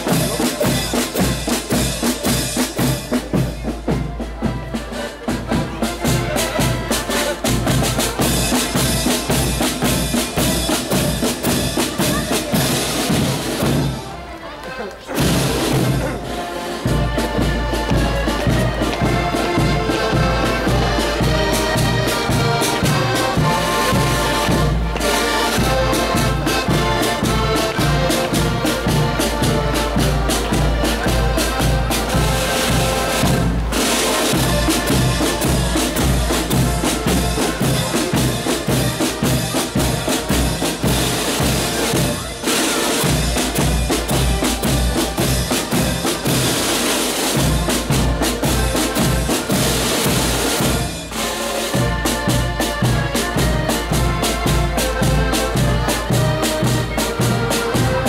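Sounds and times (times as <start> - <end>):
snare drums: 0.0 - 14.2, 15.0 - 58.0
accordions playing a tune: 0.0 - 58.0.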